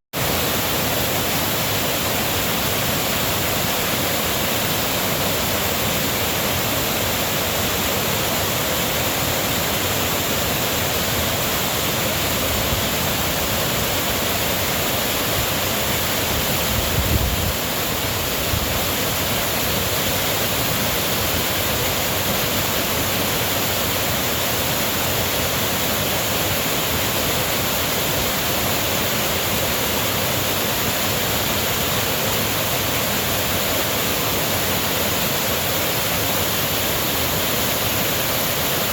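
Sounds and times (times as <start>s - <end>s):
rushing river water: 0.2s - 38.9s.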